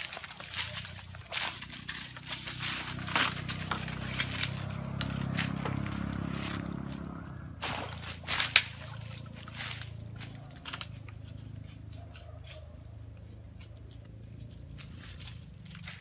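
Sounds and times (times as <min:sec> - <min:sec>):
footsteps in dry leaves: 0:00.0 - 0:12.8, 0:13.6 - 0:16.0.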